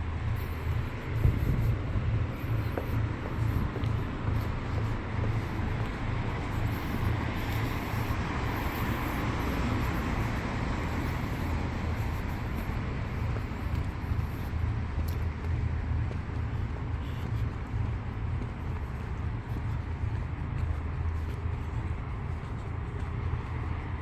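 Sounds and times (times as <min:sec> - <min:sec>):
city ambience hiss: 0:00.0 - 0:24.0
low engine rumble: 0:00.0 - 0:24.0.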